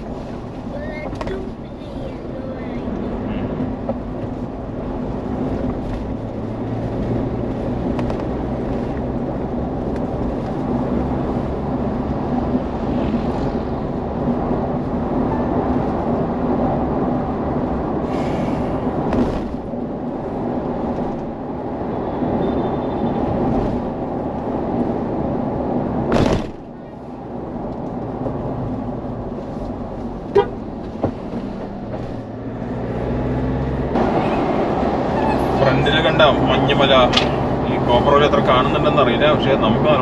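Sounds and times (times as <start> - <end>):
road and engine drone in car: 0.0 - 40.0.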